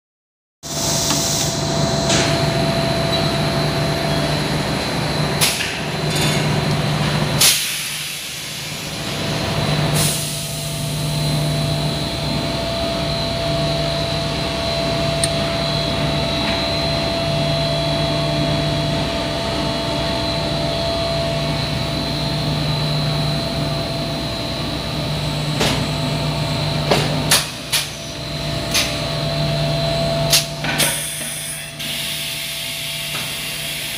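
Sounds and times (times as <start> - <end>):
machine hum and whine: 0.6 - 33.9.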